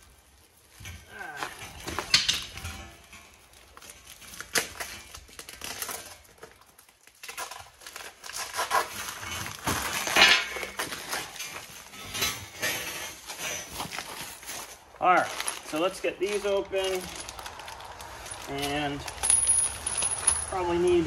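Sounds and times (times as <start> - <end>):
plastic wrapping crinkling: 0.0 - 12.2, 13.0 - 20.6.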